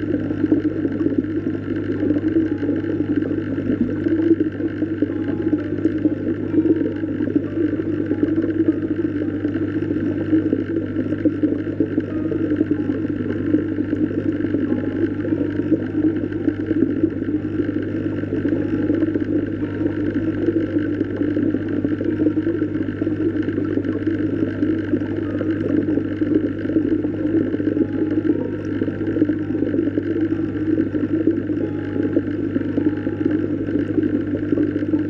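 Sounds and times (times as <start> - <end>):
constant low hum: 0.0 - 35.0.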